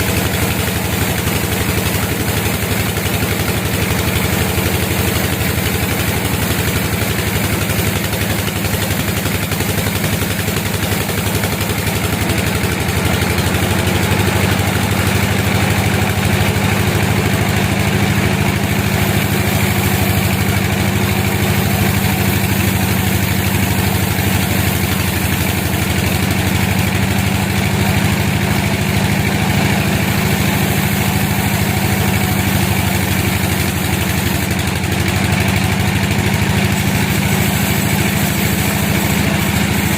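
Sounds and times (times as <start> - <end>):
engine low drone: 0.0 - 39.9.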